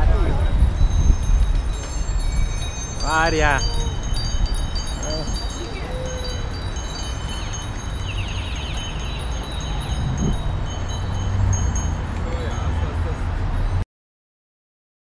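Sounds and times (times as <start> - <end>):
wind and road noise rumble: 0.0 - 13.8
bicycle bells ringing: 0.5 - 13.8.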